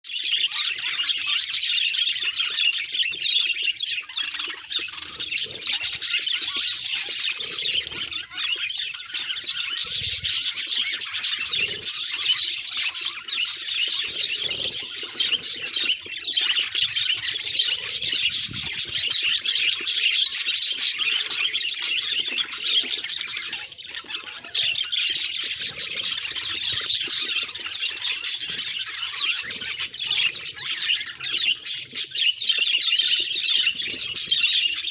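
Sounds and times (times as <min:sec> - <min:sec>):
budgerigars chattering and chirping: 0:00.1 - 0:34.9.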